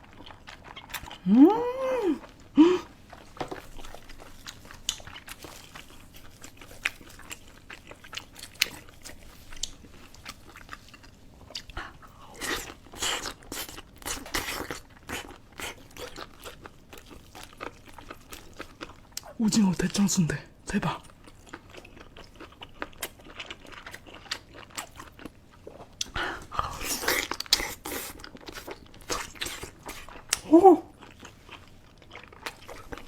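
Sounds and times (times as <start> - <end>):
person chewing crunchy food: 0.0 - 19.4, 20.9 - 33.0.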